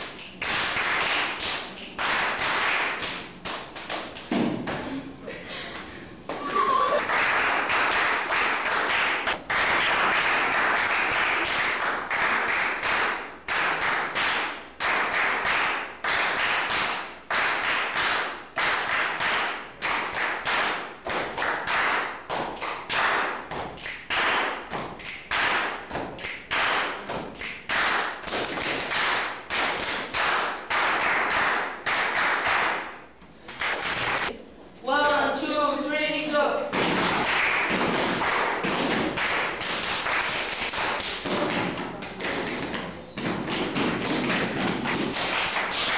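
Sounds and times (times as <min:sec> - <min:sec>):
hand claps and body slaps: 0:00.0 - 0:04.9, 0:05.7 - 0:34.4, 0:36.7 - 0:45.9.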